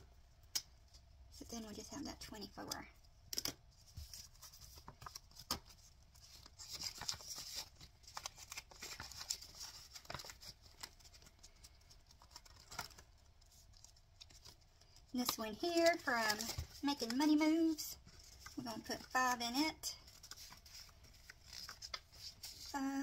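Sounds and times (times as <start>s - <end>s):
paper and plastic rustling: 3.6s - 23.0s.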